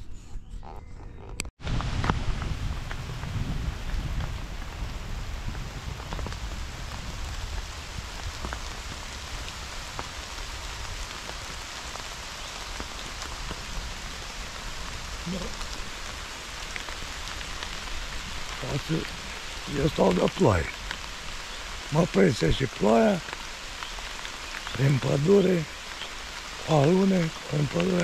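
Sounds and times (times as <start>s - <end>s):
steady rain: 1.6s - 28.0s
raindrops ticking: 2.4s - 28.0s.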